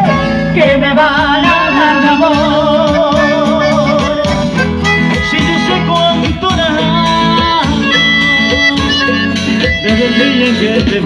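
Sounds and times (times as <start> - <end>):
person singing with vibrato: 0.0 - 11.0
strummed and plucked guitars: 0.0 - 11.0
sustained melody line: 0.0 - 11.0.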